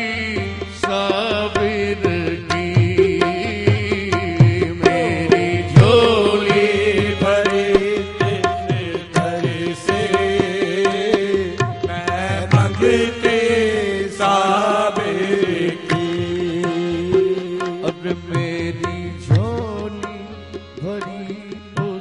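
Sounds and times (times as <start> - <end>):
harmonium tones: 0.0 - 22.0
person singing ornamented phrases: 0.0 - 22.0.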